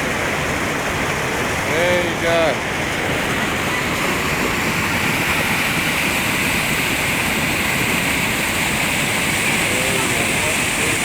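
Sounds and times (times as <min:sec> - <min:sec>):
roar of rushing white water: 0:00.0 - 0:11.0.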